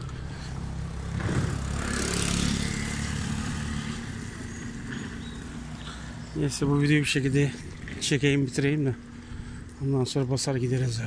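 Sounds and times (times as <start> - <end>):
scooter engine hum: 0.0 - 9.8.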